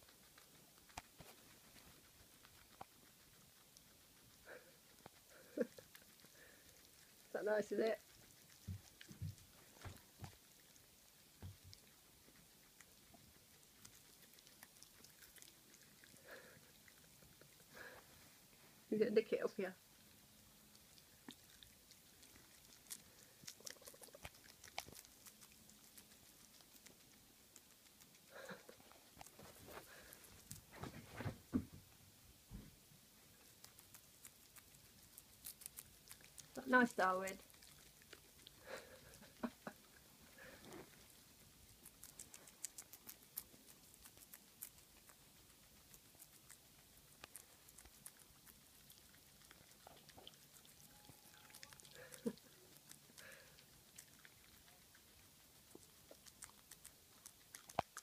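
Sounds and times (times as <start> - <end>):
guinea pig chewing leaf: 0.0 - 58.0.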